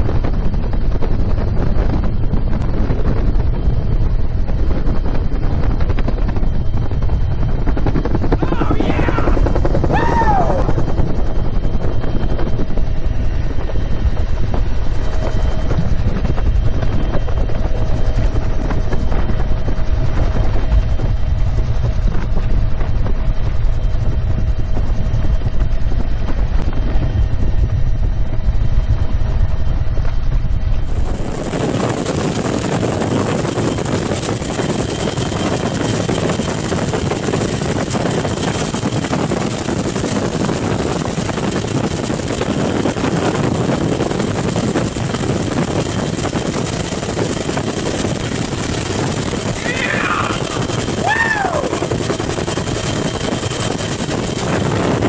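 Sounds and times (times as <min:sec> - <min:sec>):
helicopter rotor and engine rumble: 0:00.0 - 0:55.0
wind rushing: 0:00.0 - 0:55.0.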